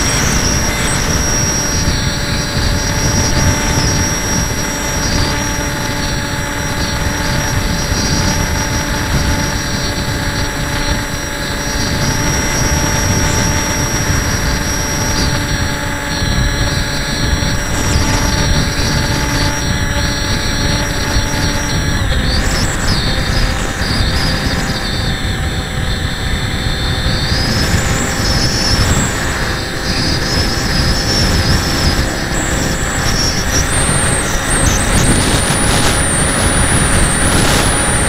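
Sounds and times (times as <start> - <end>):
model plane motor whining: 0.0 - 38.0
wind rumble on microphone: 0.0 - 38.0.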